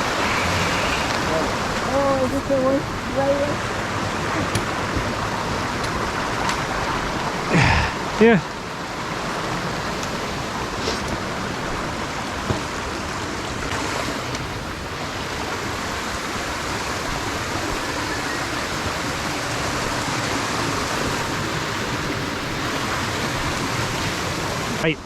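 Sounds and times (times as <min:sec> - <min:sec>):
creek rushing: 0:00.0 - 0:25.0.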